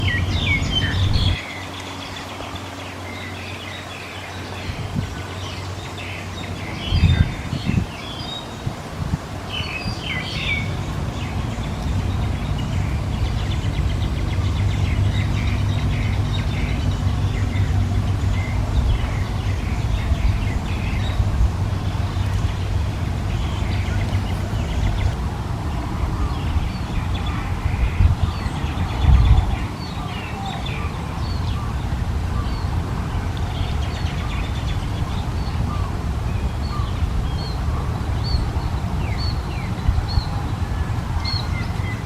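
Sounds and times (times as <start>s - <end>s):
low steady rumble: 0.0s - 42.0s
small birds chirping: 0.0s - 42.0s.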